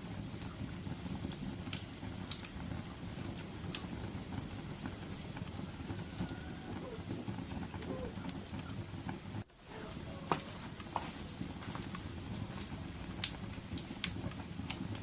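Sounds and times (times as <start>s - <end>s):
fire crackles and pops: 0.0s - 15.0s
wood fire rumbling: 0.0s - 15.0s.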